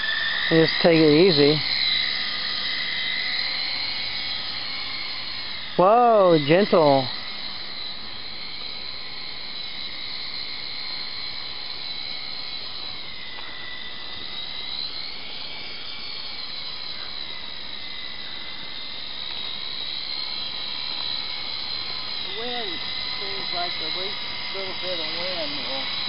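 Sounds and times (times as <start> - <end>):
toy helicopter motor whine: 0.0 - 26.0.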